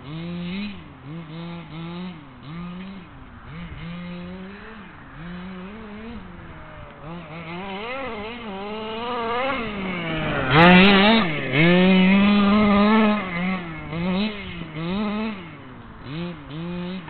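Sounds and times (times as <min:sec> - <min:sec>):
small petrol engine revving: 0:00.0 - 0:17.0.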